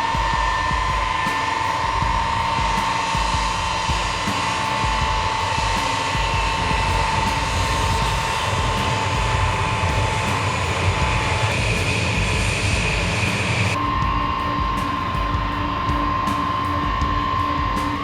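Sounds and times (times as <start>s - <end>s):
high engine whine: 0.0s - 18.0s
jet engines roaring: 0.0s - 18.0s.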